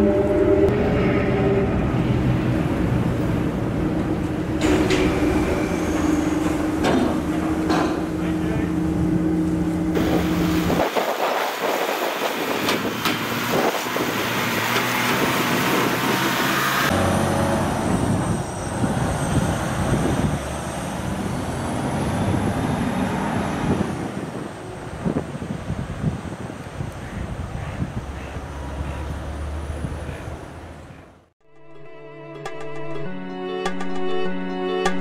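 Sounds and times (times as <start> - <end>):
car road noise: 0.0 - 31.3.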